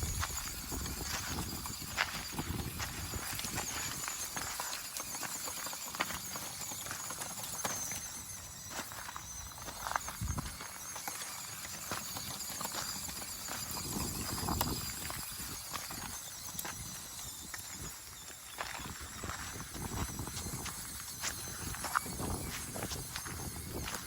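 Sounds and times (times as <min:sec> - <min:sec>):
faint high whine: 0:00.0 - 0:24.0.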